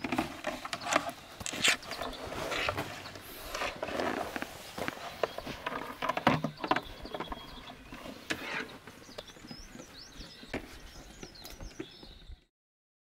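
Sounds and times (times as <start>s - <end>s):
footsteps: 0.0s - 6.1s, 7.1s - 12.3s
rustle of movement: 0.0s - 12.3s
small bird chirping: 0.6s - 4.0s, 5.0s - 12.5s.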